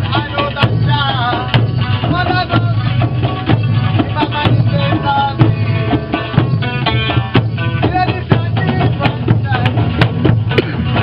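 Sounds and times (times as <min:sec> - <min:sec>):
drum beating steady rhythm: 0:00.0 - 0:11.0.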